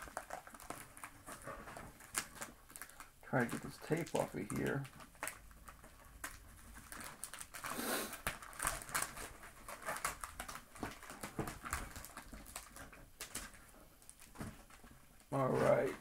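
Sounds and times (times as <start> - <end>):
packing tape pulled off package: 0.0 - 14.8
rustling and crackles of handling: 0.0 - 16.0
tape tearing rustle: 0.0 - 16.0.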